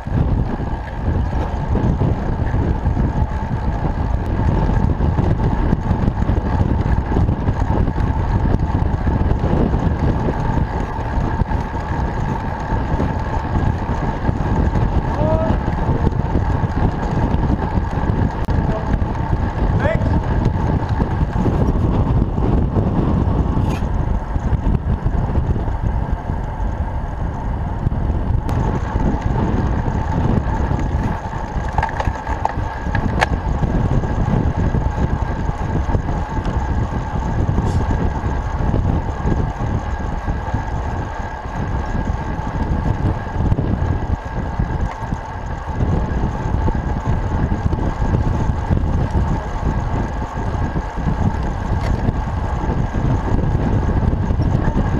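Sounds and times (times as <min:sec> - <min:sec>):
faint steady whines: 0:00.0 - 0:54.9
road and tyre rumble: 0:00.0 - 0:54.9
wind rushing over microphone: 0:00.0 - 0:54.9.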